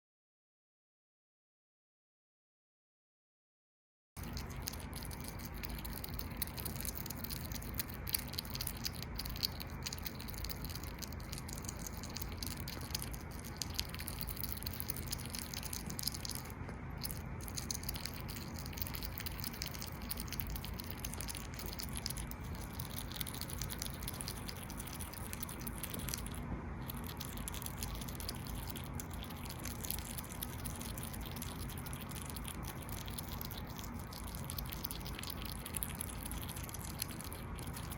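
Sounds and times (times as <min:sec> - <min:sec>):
hedgehog chewing wet clicks: 0:04.2 - 0:37.9
low background hum: 0:04.2 - 0:37.9.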